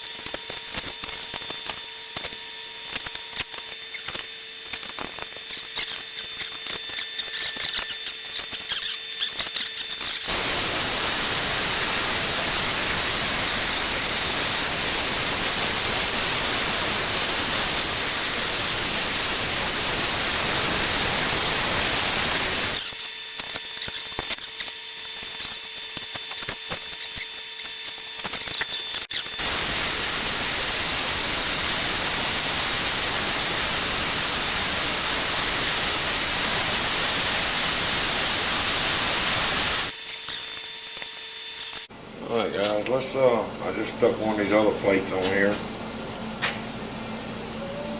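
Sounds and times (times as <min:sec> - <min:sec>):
arc welding crackling hiss: 0:00.0 - 0:41.9.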